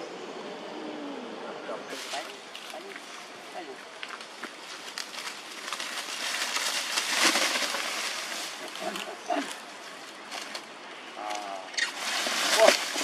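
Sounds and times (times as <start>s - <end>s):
dry leaves rustling: 1.9s - 13.0s.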